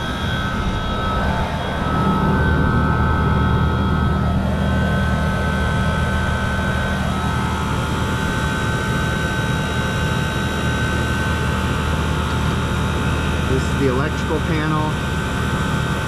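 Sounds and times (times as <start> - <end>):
refrigeration units humming: 0.0 - 16.0
whining tones: 0.0 - 16.0.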